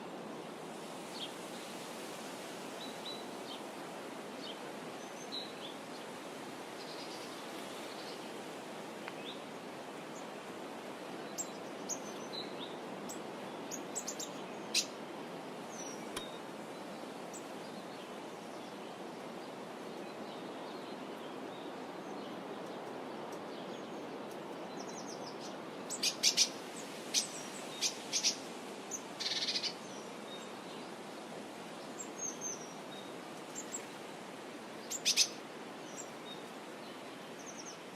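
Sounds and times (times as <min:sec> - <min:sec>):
steady background hiss: 0:00.0 - 0:37.9.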